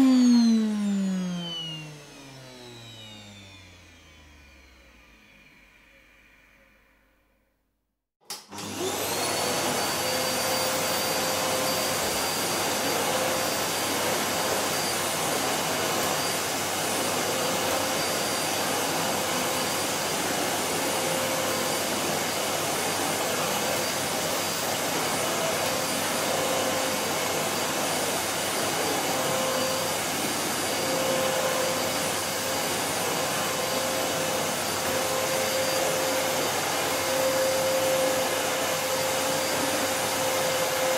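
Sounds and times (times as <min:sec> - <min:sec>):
vacuum cleaner running: 0:00.0 - 0:07.2, 0:08.2 - 0:40.9.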